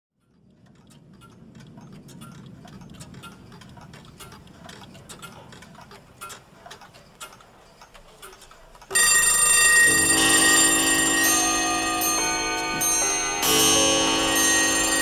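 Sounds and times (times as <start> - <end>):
clocks ticking: 0.1 - 15.0.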